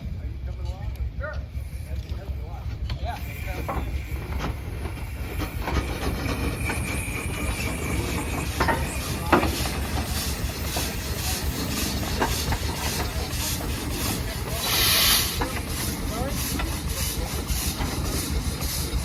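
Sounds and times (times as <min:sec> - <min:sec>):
steam engine rhythmic beat: 0:03.2 - 0:19.0
steam hiss: 0:03.2 - 0:19.0.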